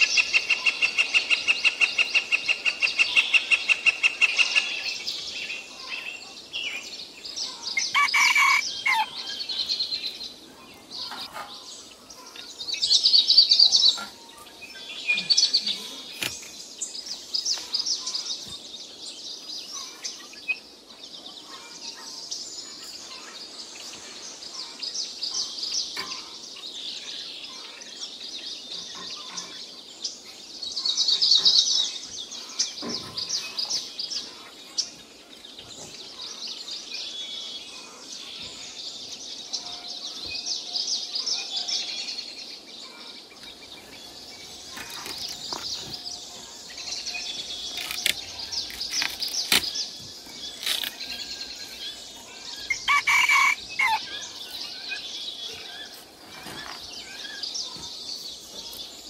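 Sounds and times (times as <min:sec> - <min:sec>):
birds chirping and trilling: 0:00.0 - 0:59.0
outdoor background noise: 0:00.0 - 0:59.0.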